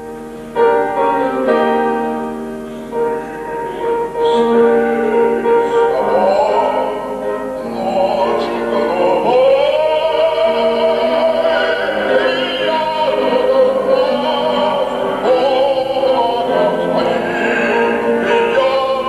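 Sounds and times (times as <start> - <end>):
piano accompaniment: 0.0 - 19.0
operatic soprano singing: 3.4 - 19.0.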